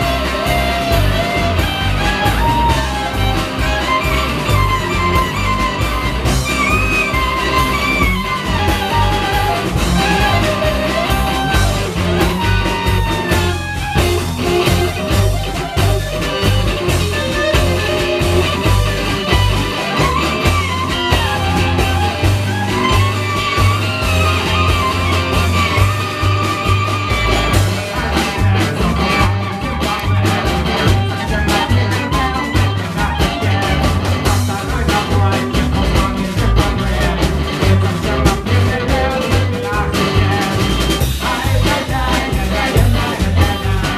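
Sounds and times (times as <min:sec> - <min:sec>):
bending lead melody: 0:00.0 - 0:43.9
double bass: 0:00.0 - 0:43.9
drums: 0:00.0 - 0:43.9
live band playing: 0:00.0 - 0:43.9.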